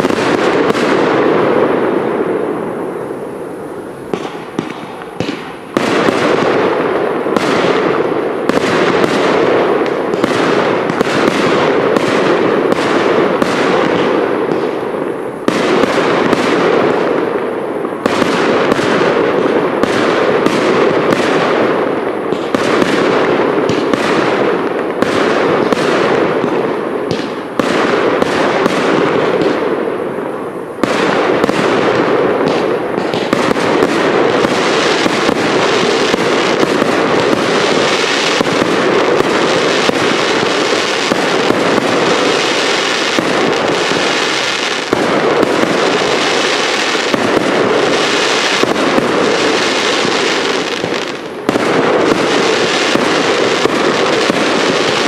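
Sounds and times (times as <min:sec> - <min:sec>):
fireworks bangs and booms: 0:00.0 - 0:55.0
fireworks sizzling crackle: 0:00.0 - 0:55.0.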